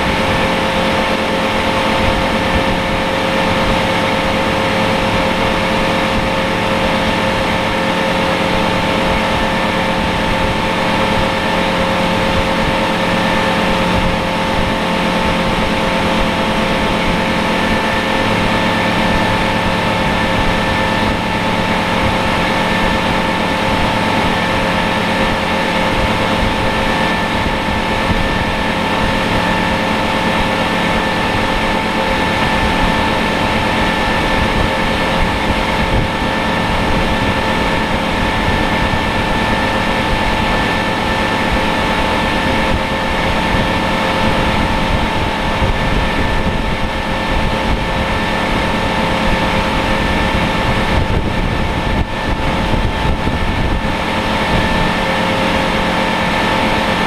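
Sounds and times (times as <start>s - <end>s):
boat engine whine: 0.0s - 57.0s
wind and water rushing: 0.0s - 57.0s.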